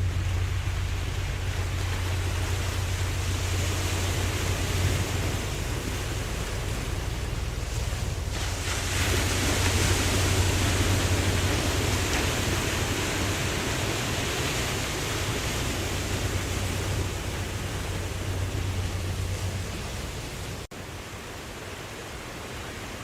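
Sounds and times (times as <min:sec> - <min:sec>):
ocean wave washing in: 0:00.0 - 0:23.0.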